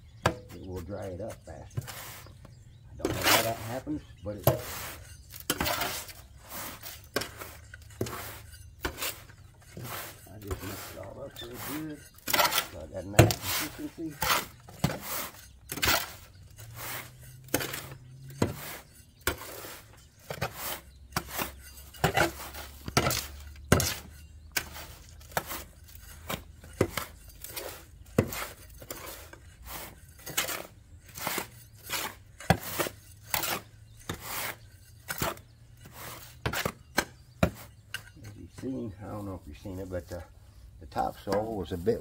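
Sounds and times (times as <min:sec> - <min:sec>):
hoe scraping soil in metal wheelbarrow: 0:00.1 - 0:42.0.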